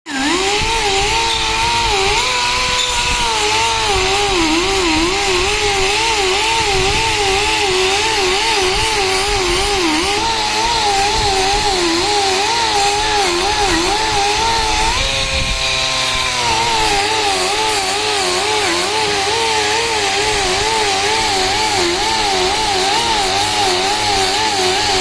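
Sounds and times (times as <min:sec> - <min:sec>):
power tool motor whine: 0:00.1 - 0:25.0.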